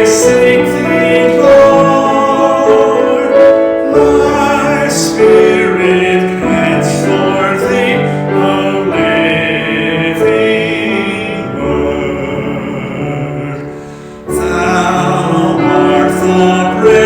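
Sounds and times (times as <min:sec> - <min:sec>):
keyboard accompaniment: 0:00.0 - 0:17.0
voices singing a hymn: 0:00.0 - 0:17.0.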